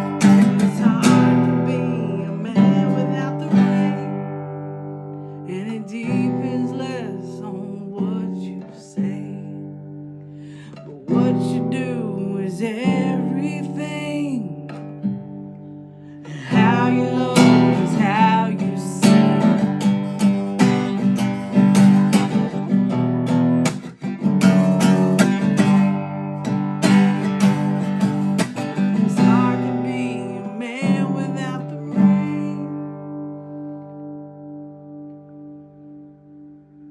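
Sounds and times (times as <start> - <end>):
acoustic guitar strumming: 0.0 - 36.9.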